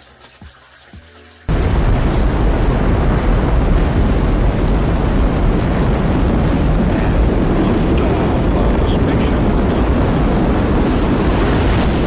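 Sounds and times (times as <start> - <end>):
rocket engines deep rumble: 1.5 - 12.0.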